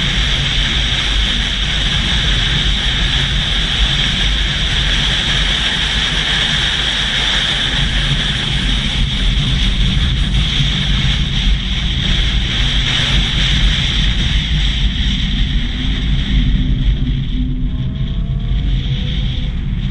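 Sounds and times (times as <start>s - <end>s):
low vehicle rumble: 0.0s - 19.9s
wind rushing: 0.0s - 19.9s.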